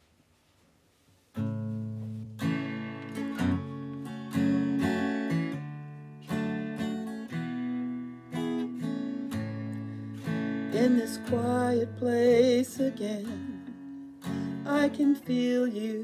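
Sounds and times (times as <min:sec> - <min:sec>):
acoustic guitar strumming chords: 0:01.3 - 0:16.0.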